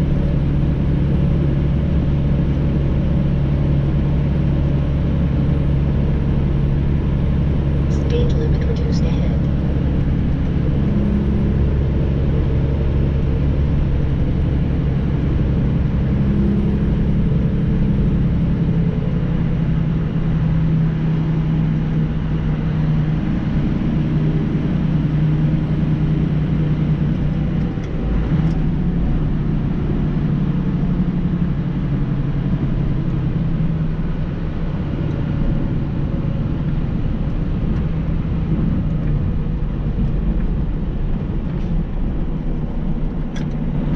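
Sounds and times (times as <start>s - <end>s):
truck engine and road drone: 0.0s - 43.9s.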